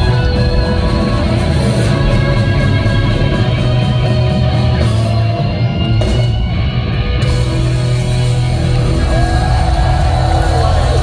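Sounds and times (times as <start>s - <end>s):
electric guitars: 0.0s - 11.0s
live rock band playing: 0.0s - 11.0s.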